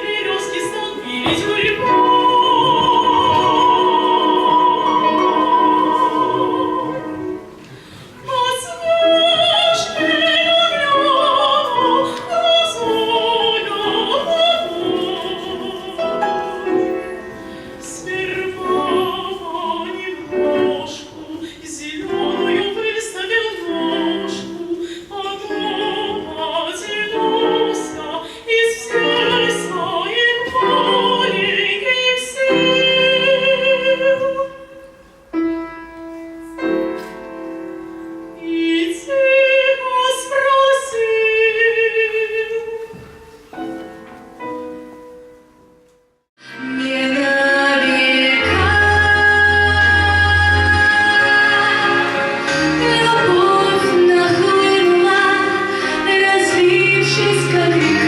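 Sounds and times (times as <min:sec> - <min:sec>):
piano accompaniment: 0:00.0 - 0:58.0.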